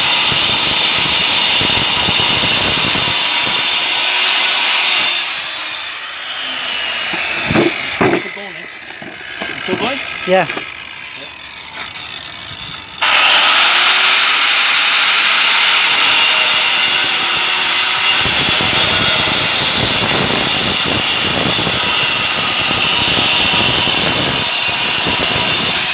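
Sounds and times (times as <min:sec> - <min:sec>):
diamond wheel grinding masonry: 0:00.0 - 0:25.9.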